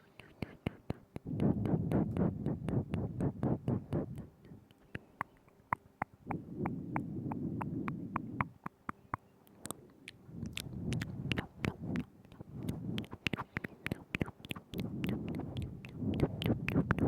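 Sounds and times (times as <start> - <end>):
wet mouth clicks and smacks: 0.0 - 17.0.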